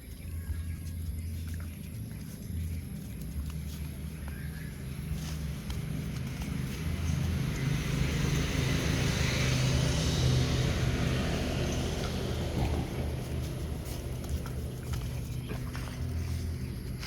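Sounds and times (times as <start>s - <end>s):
low engine hum: 0.0s - 17.0s
motor vehicle passing: 0.0s - 17.0s.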